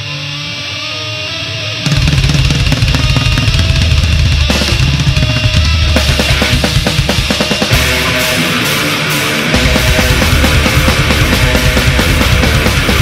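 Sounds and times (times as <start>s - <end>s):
metal music: 0.0s - 13.0s
rapid drum hits: 1.9s - 13.0s.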